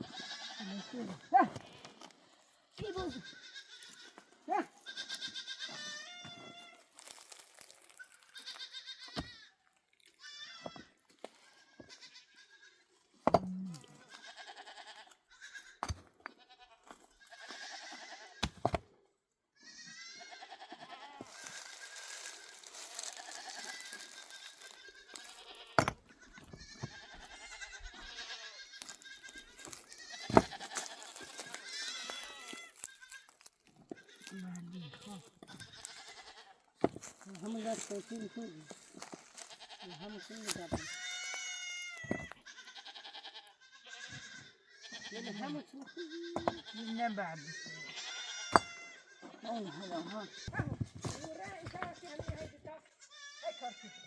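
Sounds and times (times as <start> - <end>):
goats bleating: 0.0 - 18.5, 19.6 - 54.0.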